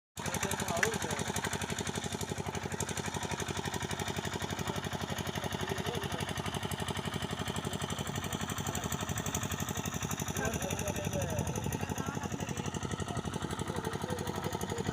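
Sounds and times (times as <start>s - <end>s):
engine running with fast pulsing: 0.2s - 14.9s.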